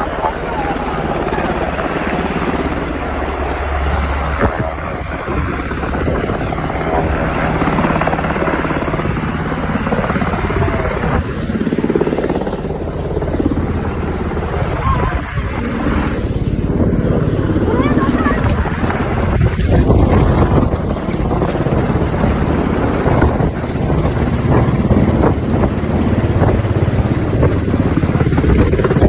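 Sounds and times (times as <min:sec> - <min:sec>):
helicopter rotor chopping: 0:00.0 - 0:29.0.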